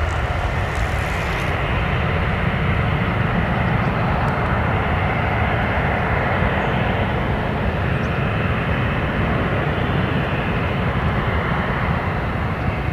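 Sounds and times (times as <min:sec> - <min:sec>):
jet engine rumble: 0:00.0 - 0:12.9.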